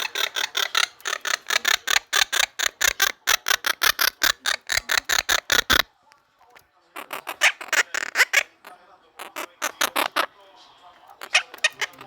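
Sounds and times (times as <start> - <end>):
parrot clicking: 0.0 - 10.4, 11.0 - 12.0.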